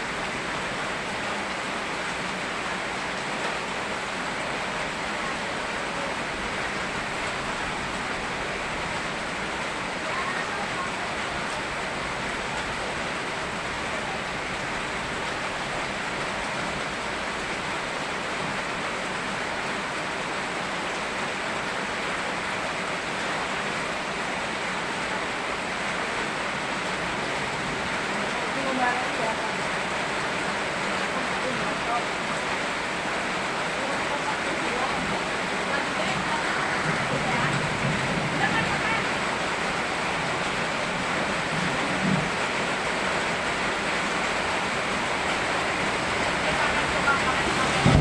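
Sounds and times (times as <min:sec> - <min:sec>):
rushing river: 0:00.0 - 0:48.0
steady rain: 0:00.0 - 0:48.0.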